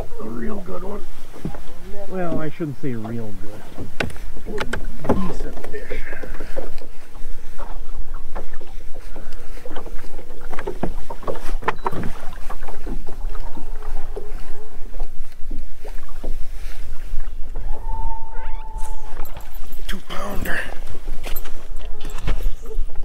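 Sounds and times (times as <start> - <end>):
waves slapping boat hull: 0.0 - 23.0.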